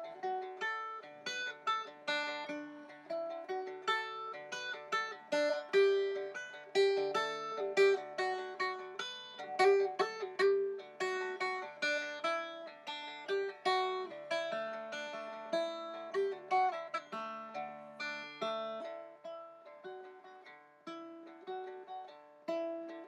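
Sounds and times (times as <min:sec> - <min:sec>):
plucked dulcimer melody: 0:00.0 - 0:23.0.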